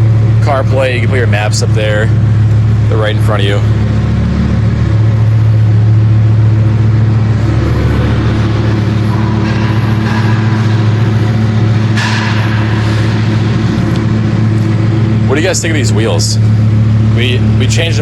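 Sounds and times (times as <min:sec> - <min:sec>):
car engine droning: 0:00.0 - 0:18.0
road noise: 0:01.6 - 0:18.0.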